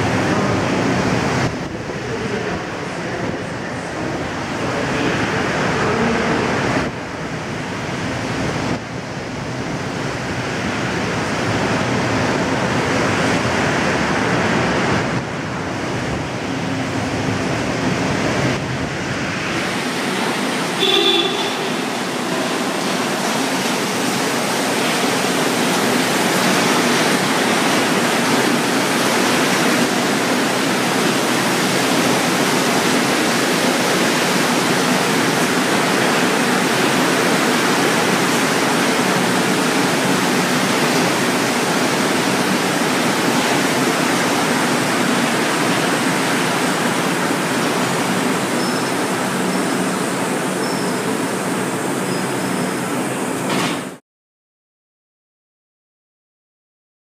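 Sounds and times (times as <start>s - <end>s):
train rolling into station: 0.0s - 54.0s.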